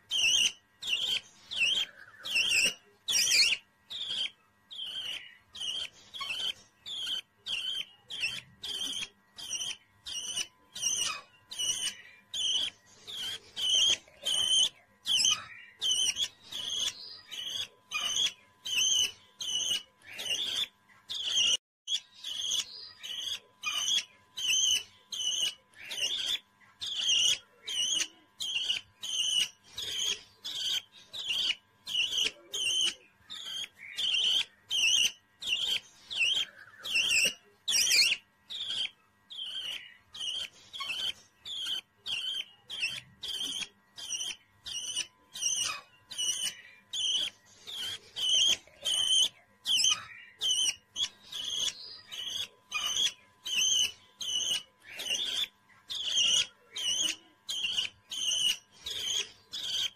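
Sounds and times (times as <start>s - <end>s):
cockatiel chick chirping: 0.0s - 59.9s.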